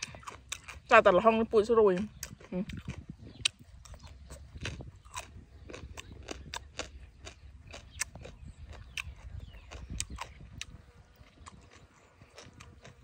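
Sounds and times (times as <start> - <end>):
close-up chewing food: 0.0 - 13.0.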